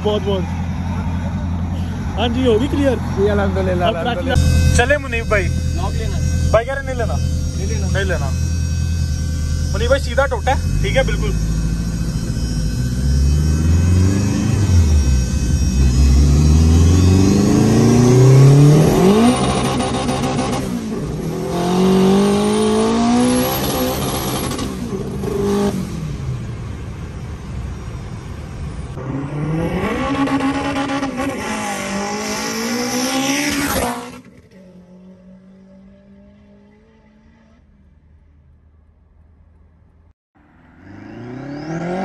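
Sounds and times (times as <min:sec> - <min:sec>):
car engine accelerating: 0:00.0 - 0:26.7, 0:28.9 - 0:38.0, 0:40.4 - 0:42.0.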